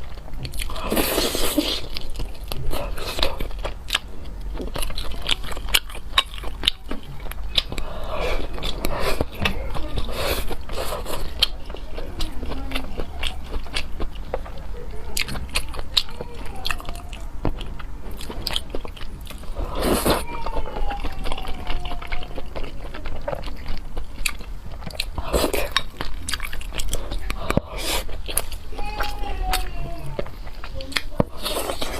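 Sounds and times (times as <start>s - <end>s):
person chewing wetly: 0.0s - 31.9s.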